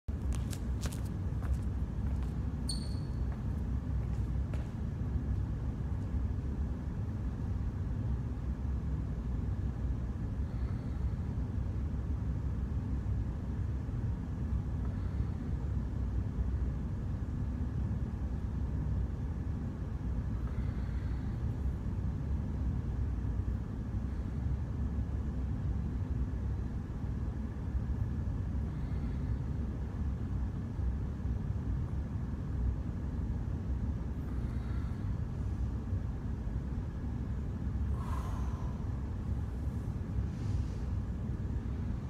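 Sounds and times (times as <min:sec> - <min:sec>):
low rumbling background noise: 0:00.0 - 0:42.0
faint high hum: 0:00.1 - 0:42.0.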